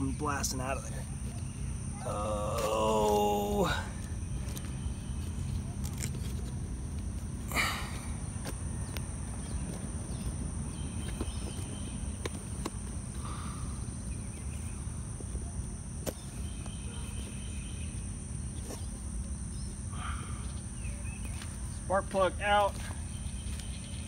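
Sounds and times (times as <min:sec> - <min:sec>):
insects droning: 0:00.0 - 0:24.0
low steady rumble: 0:00.0 - 0:24.0.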